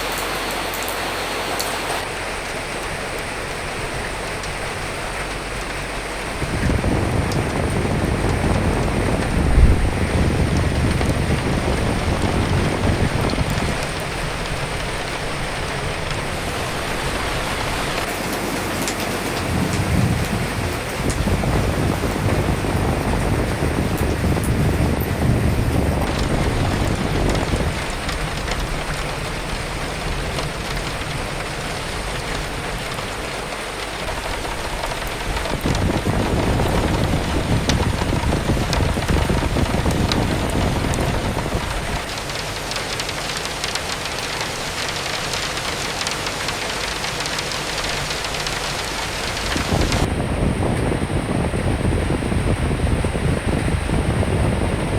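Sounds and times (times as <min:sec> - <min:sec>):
sharp raindrop ticks: 0:00.0 - 0:50.1
steady rain falling: 0:00.0 - 0:54.9
wind: 0:00.0 - 0:54.9.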